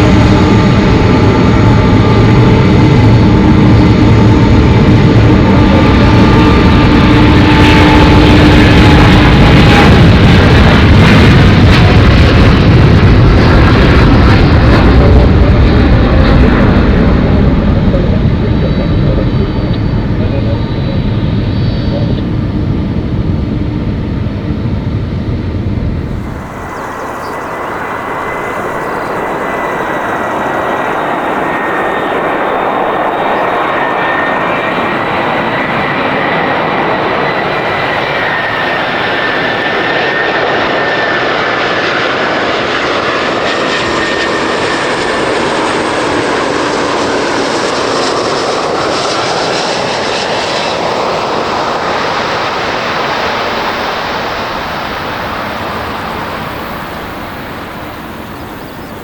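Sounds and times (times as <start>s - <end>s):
departing jet rumble: 0.0s - 59.0s
jet airliner whine and rush: 0.0s - 59.0s.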